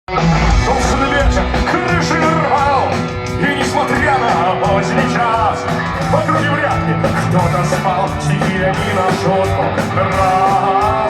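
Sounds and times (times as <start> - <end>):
lead vocal melody: 0.1 - 11.0
punk rock band playing: 0.1 - 11.0.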